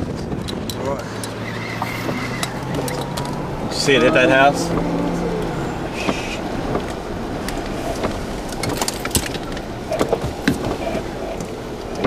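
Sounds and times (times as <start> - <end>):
rushing wind: 0.0 - 12.0
vehicle noise: 0.0 - 12.0.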